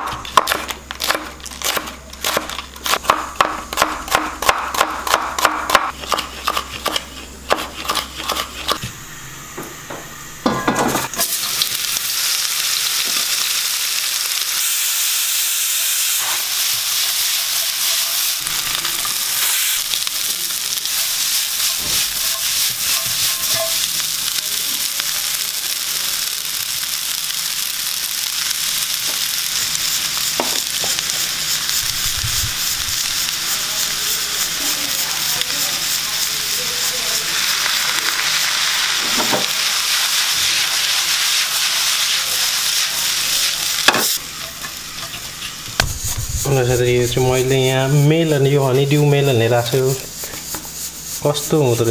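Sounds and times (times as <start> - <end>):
stir-fry sizzling in wok: 0.0 - 51.9.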